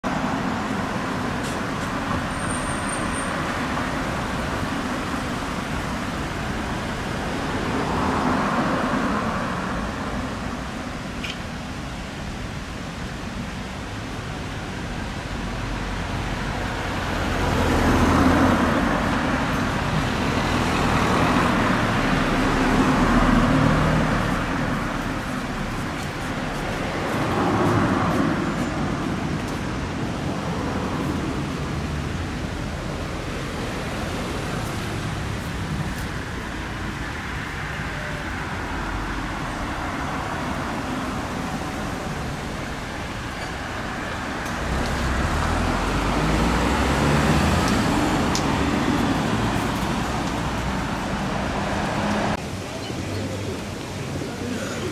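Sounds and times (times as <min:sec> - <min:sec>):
cars passing: 0:00.0 - 0:54.9
traffic hum: 0:00.0 - 0:54.9.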